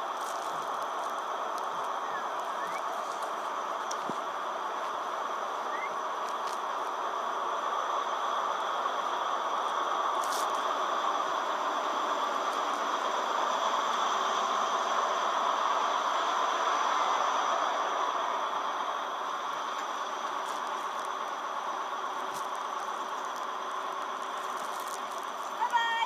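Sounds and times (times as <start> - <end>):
diesel engine humming and whining: 0.0 - 26.0.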